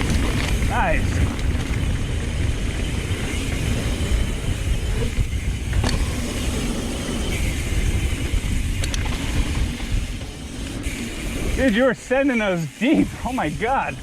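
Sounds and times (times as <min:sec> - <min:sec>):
bike tyres rolling on dirt: 0:00.0 - 0:14.0
wind buffeting microphone: 0:00.0 - 0:14.0.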